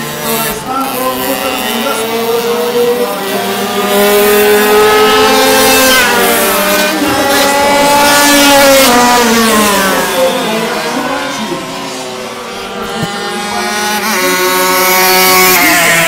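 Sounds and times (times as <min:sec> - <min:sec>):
racing motorcycles passing at high revs: 0:00.0 - 0:16.0.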